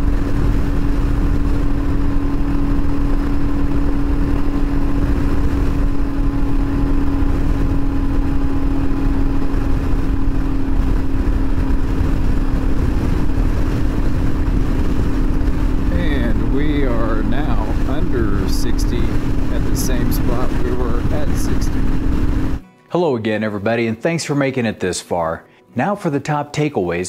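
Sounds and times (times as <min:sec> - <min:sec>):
motorcycle engine at full throttle: 0:00.0 - 0:22.6
road rumble: 0:00.0 - 0:22.6
wind: 0:00.0 - 0:22.6.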